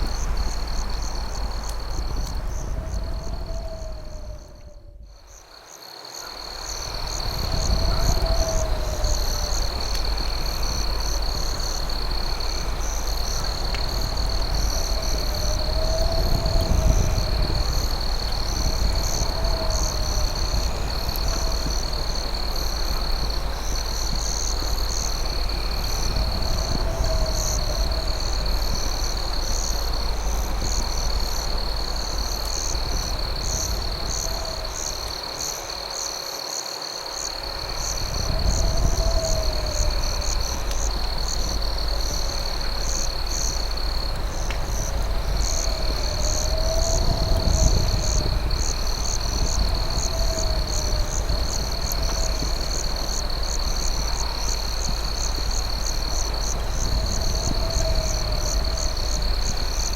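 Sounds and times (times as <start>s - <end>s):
constant low rumble: 0.0s - 5.6s, 6.2s - 36.4s, 37.0s - 59.9s
crickets trilling: 0.0s - 59.9s.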